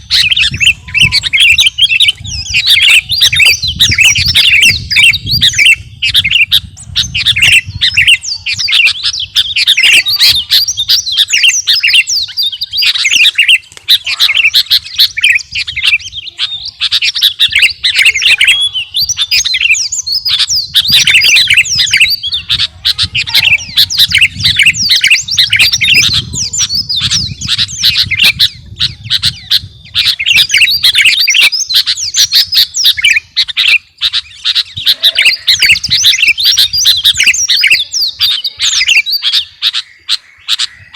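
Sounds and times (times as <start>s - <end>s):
bird singing chirps and whistles: 0.0s - 40.9s.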